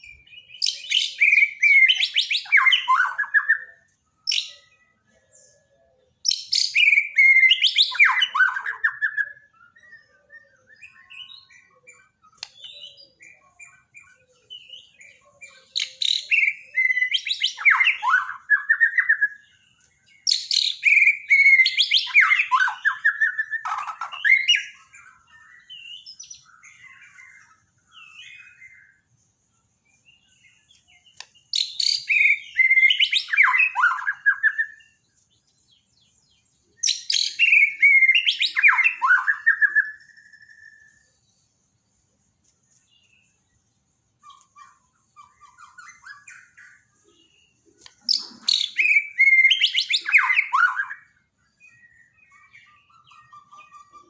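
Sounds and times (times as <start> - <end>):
bird singing whistled phrases: 0.0 - 29.0, 30.2 - 35.0, 36.7 - 41.2, 44.2 - 54.0.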